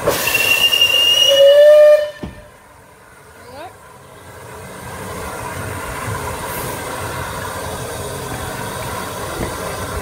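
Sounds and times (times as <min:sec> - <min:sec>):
steam train rumble: 0:00.0 - 0:10.0.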